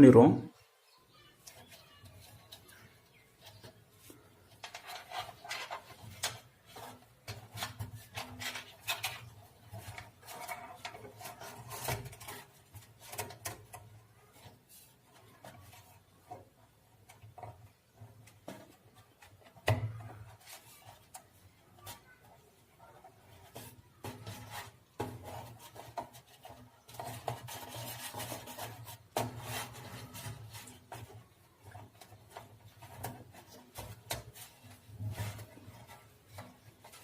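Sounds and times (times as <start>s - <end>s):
hands rubbing and clicking parts: 1.4s - 37.0s.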